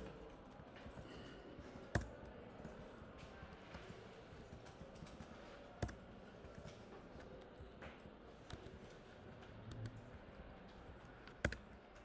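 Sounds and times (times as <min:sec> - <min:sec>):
typing on computer keyboard: 0:00.0 - 0:12.0.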